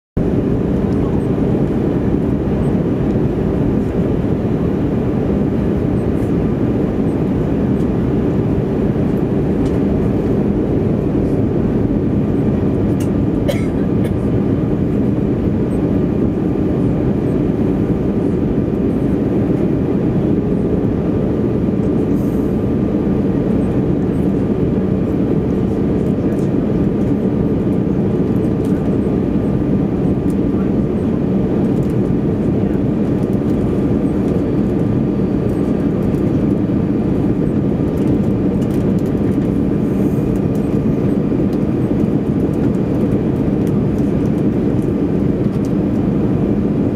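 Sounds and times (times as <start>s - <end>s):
airliner cabin roar: 0.2s - 46.9s.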